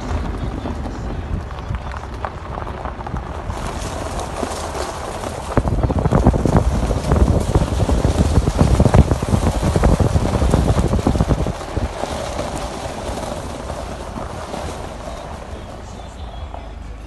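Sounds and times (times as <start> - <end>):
wind buffeting microphone: 0.0 - 16.4
footsteps crunching on gravel: 0.0 - 17.0.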